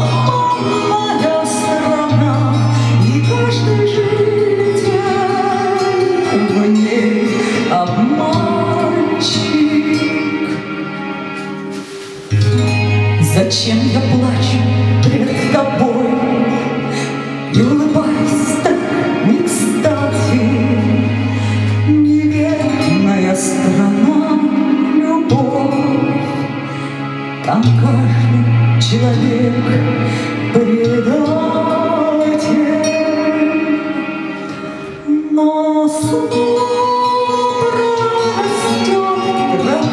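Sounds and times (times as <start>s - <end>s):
backing track through speakers: 0.0s - 39.9s
woman singing into microphone: 0.0s - 39.9s.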